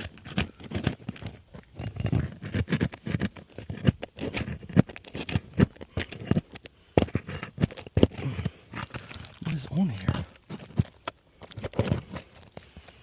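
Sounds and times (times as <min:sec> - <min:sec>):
shingles scraping and knocking: 0:00.0 - 0:13.0.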